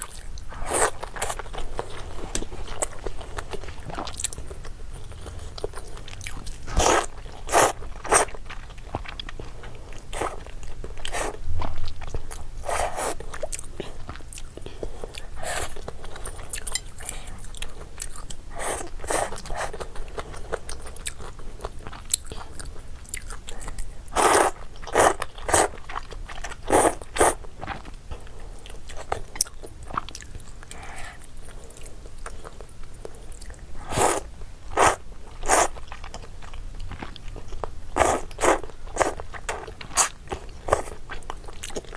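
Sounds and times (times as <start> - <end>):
eating noodles crunching chewing: 0.0 - 41.9.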